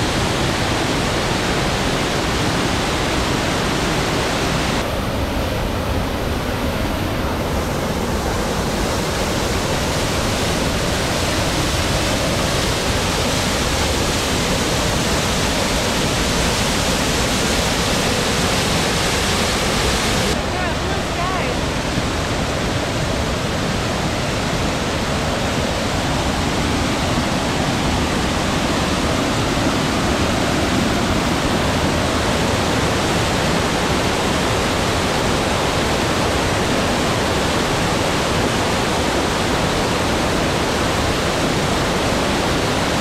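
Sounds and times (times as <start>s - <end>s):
waterfall rushing over rocks: 0.0s - 43.0s.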